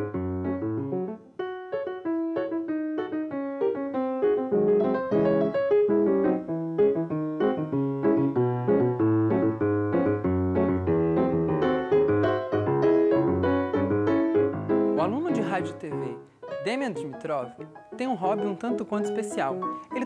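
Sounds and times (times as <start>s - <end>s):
solo grand piano: 0.0s - 20.0s.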